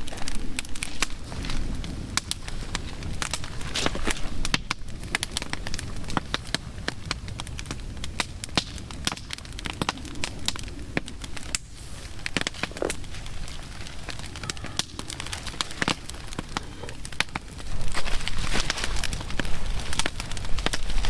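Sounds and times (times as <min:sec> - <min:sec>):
open fire crackling and popping: 0:00.0 - 0:21.0.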